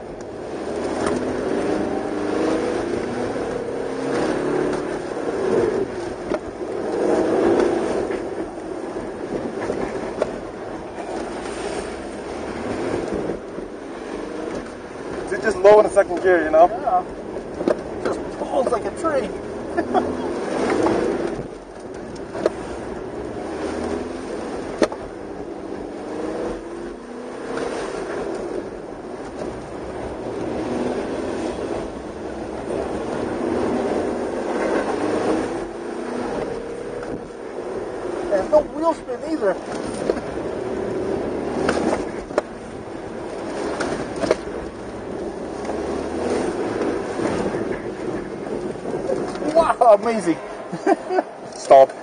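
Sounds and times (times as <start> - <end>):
car engine accelerating and slowing: 0.0 - 52.0.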